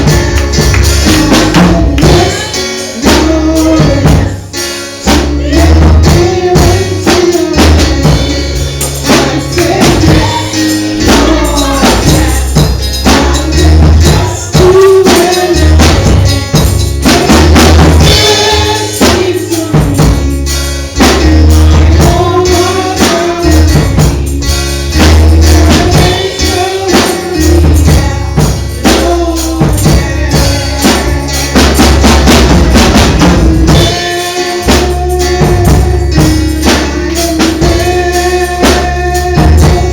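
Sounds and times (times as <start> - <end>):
bass: 0.0 - 39.9
drum kit: 0.0 - 39.9
person singing: 0.0 - 39.9
tambourine beat: 0.0 - 39.9.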